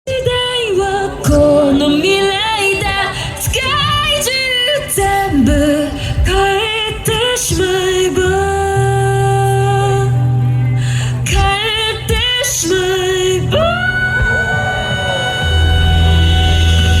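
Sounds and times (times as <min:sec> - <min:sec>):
music: 0:00.1 - 0:17.0
woman singing: 0:00.1 - 0:17.0.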